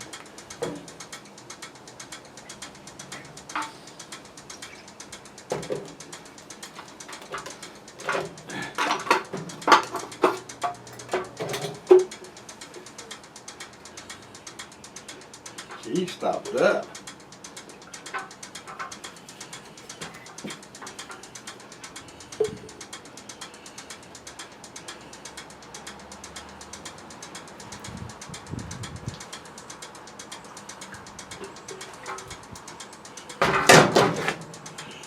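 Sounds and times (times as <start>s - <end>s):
rapid mechanical clicking: 0.0s - 35.0s.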